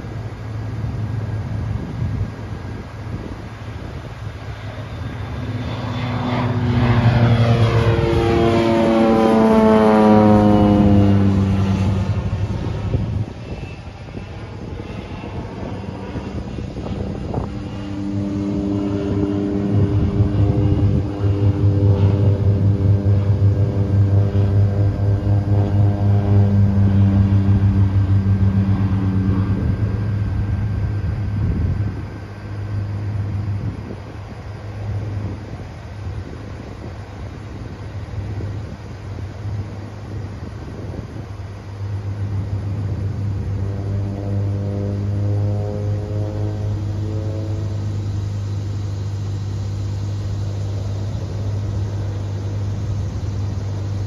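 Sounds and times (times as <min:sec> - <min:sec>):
propeller airplane droning: 0:00.0 - 0:54.0.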